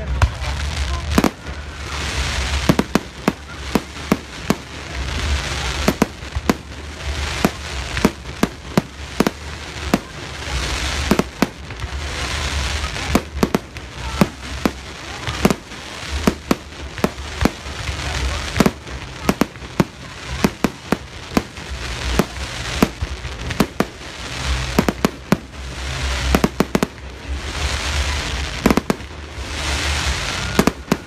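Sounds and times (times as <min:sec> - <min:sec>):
fireworks bangs: 0:00.0 - 0:31.0
hissing crackle of fireworks: 0:00.0 - 0:31.0.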